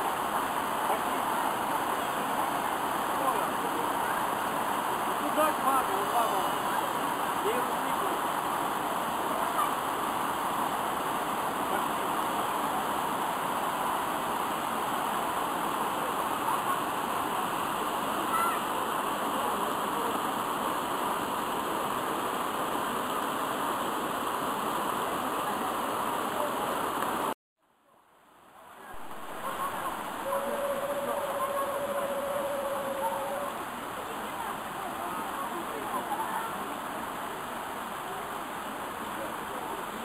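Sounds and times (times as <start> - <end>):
stream water rushing over rocks: 0.0 - 27.4, 28.1 - 40.0.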